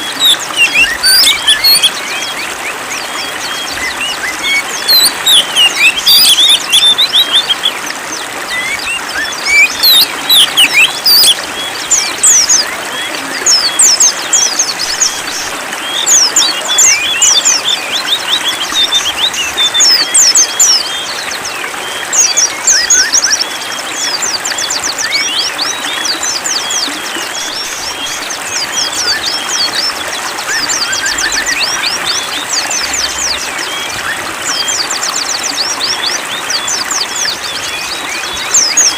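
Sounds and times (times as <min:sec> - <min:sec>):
running water hiss: 0:00.0 - 0:38.9
songbirds chirping and trilling: 0:00.0 - 0:38.9.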